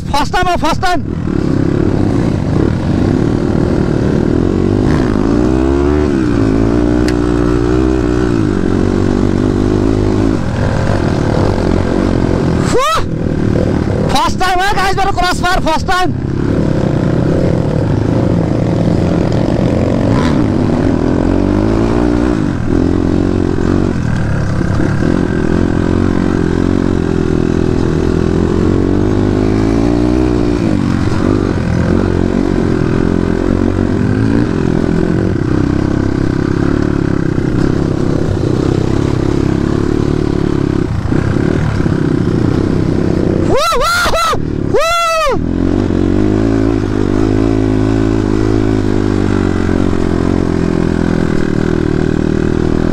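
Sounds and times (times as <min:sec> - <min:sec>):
dirt bike engine revving: 0:00.2 - 0:52.9.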